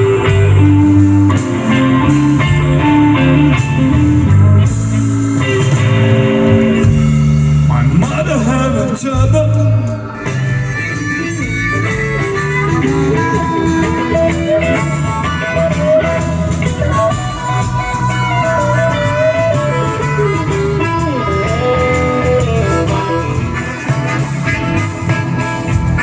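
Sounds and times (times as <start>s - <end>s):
blues band playing live: 0.0s - 26.0s
lead guitar with bent notes: 0.0s - 26.0s.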